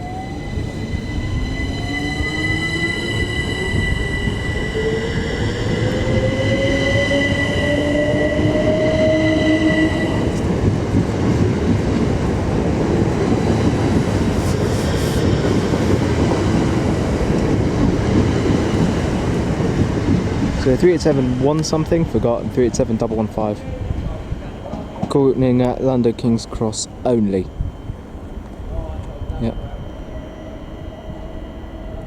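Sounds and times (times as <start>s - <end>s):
train traction motor whine: 0.0s - 32.0s
train wheels rumbling on track: 0.0s - 32.0s.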